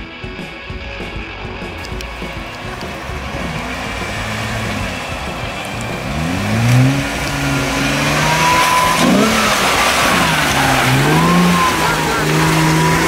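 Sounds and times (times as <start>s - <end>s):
off-road vehicle engine revving: 0.6s - 13.0s.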